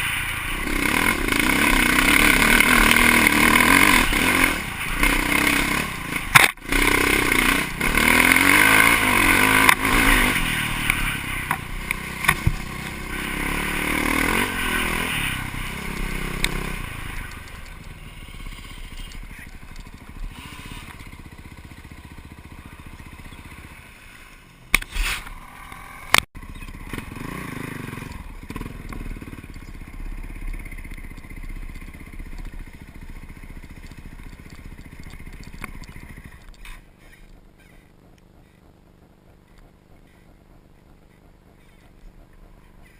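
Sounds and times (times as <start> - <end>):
off-road vehicle engine revving: 0.0 - 24.0, 25.0 - 37.8.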